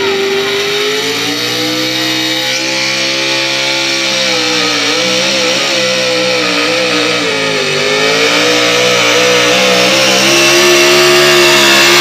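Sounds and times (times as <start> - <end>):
vehicle engine at high revs: 0.0 - 12.0.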